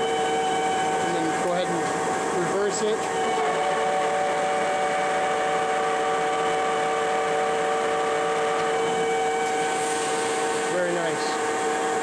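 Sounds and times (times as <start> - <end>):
machine whine with two tones: 0.0 - 12.0
noisy machine hum: 0.0 - 12.0.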